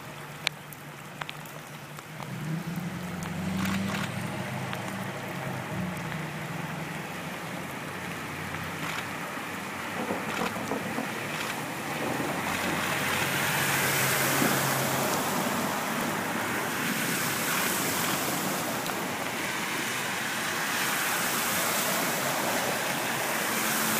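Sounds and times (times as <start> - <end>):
tyres spraying through floodwater: 0.0 - 23.9
car engines running: 2.0 - 23.9.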